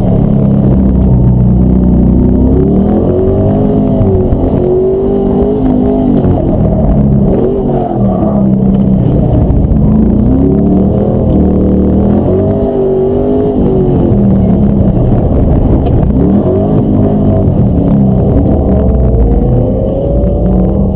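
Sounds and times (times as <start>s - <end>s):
pickup engine revving: 0.0s - 20.9s.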